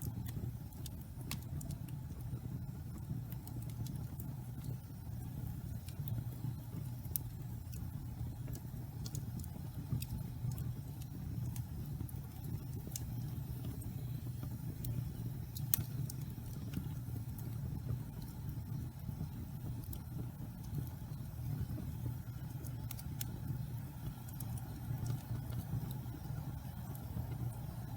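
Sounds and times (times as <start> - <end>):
logs crackling and popping: 0.0 - 27.9
low rumble of fire: 0.0 - 27.9.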